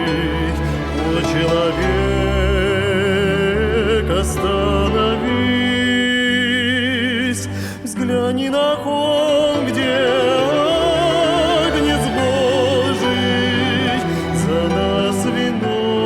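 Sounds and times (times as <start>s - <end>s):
instrumental accompaniment: 0.0s - 16.0s
voices singing with vibrato: 0.0s - 16.0s.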